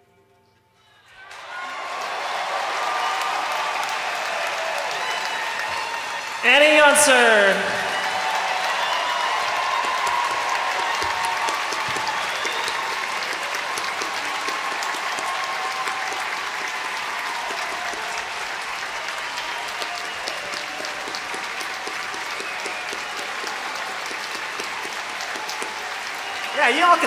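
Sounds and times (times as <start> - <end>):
audience applauding: 1.2 - 27.0.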